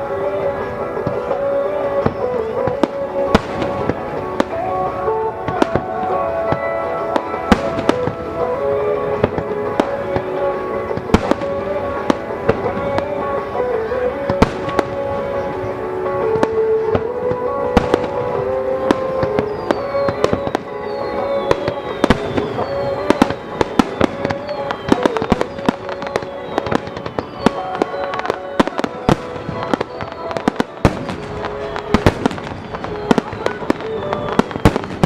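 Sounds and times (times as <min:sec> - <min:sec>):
background music with held notes: 0:00.0 - 0:35.0
fireworks bangs and cracks: 0:00.0 - 0:35.0
fireworks whistling: 0:00.0 - 0:35.0.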